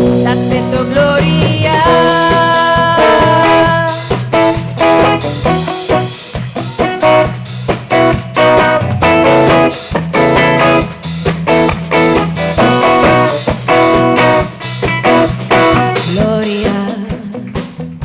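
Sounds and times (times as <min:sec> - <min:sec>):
guitar strumming chords: 0:00.0 - 0:16.1
low bass notes: 0:00.0 - 0:16.5.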